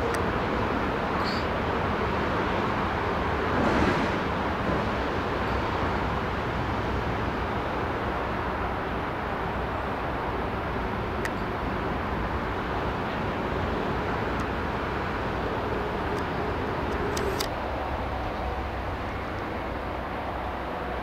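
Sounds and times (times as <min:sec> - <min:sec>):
diesel locomotive engine rumble: 0:00.0 - 0:21.0
rail yard noise: 0:00.0 - 0:21.0.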